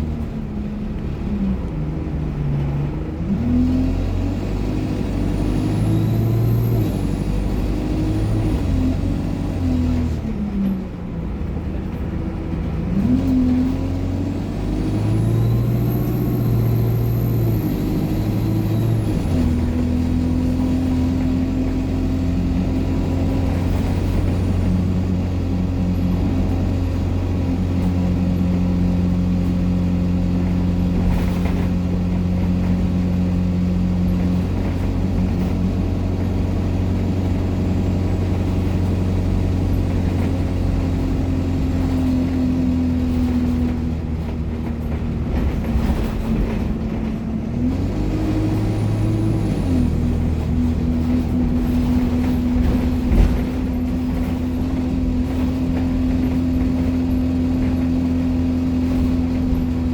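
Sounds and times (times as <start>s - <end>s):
bus engine pulling away: 0.0s - 59.9s.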